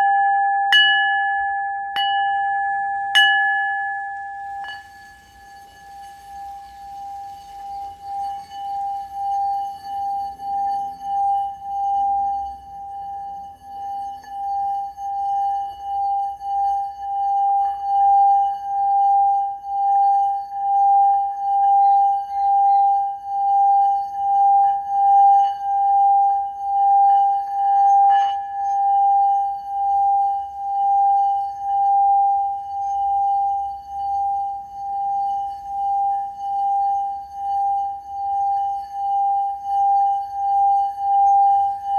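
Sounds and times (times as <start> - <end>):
singing bowl ringing: 0.0 - 41.9.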